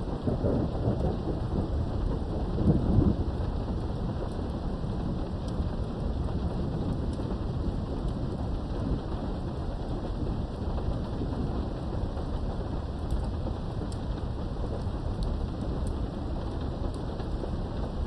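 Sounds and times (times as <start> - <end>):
continuous thunder rumble: 0.0 - 18.0
steady rain: 0.0 - 18.0.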